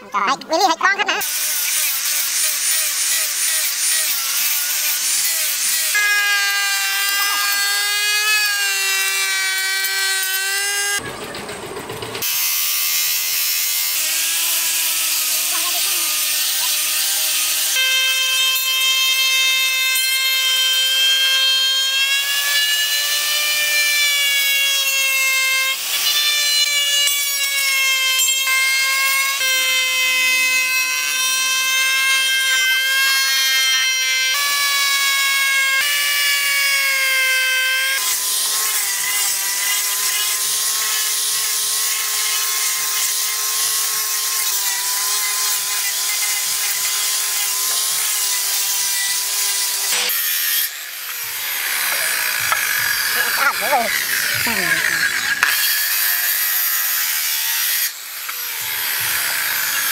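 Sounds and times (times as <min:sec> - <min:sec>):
power tool motor whine: 0:01.2 - 0:59.9.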